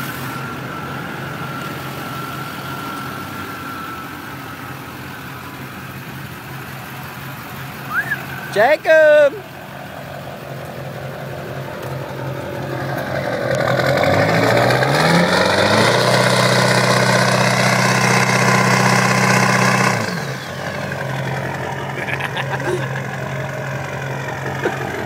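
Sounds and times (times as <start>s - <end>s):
diesel pickup engine revving: 0.0s - 25.0s.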